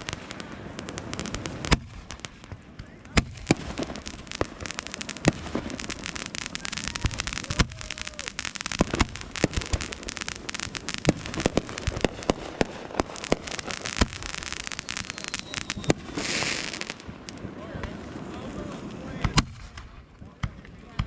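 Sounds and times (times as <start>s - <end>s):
fireworks bangs and pops: 0.0s - 21.0s
fireworks crackling: 0.0s - 21.0s.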